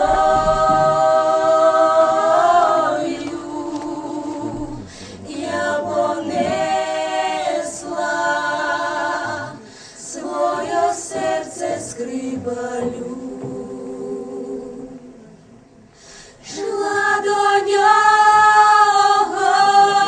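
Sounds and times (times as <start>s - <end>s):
group singing a cappella: 0.0s - 15.6s, 16.4s - 20.0s.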